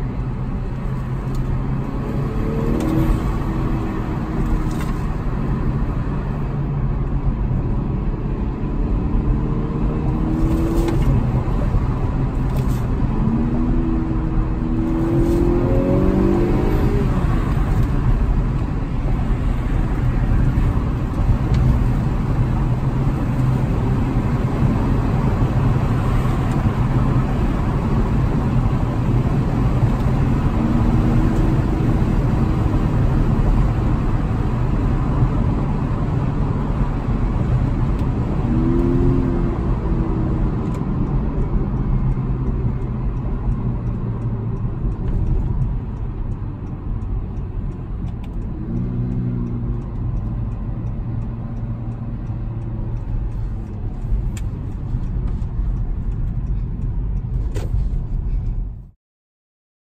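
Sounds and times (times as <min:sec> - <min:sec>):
car engine from inside cabin: 0:00.0 - 0:58.9.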